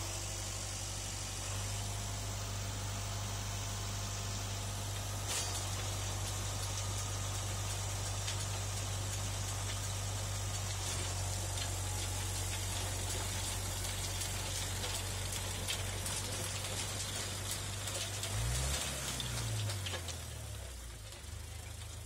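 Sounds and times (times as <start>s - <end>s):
soil churning hiss: 0.0s - 22.0s
tractor engine running: 0.0s - 22.0s.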